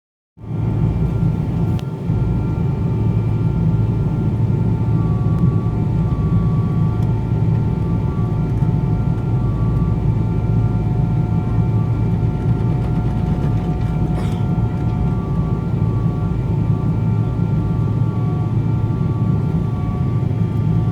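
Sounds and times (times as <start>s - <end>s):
airplane cabin engine rumble: 0.4s - 20.9s.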